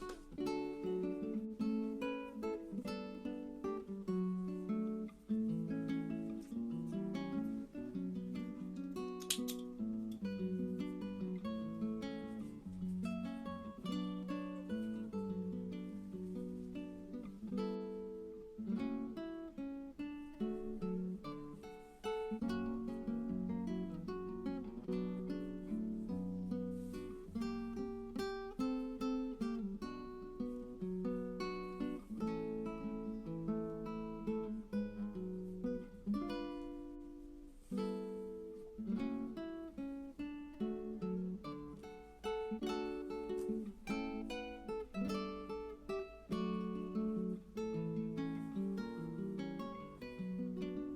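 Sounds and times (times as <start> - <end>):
acoustic guitar plucked and strummed: 0.0 - 50.9.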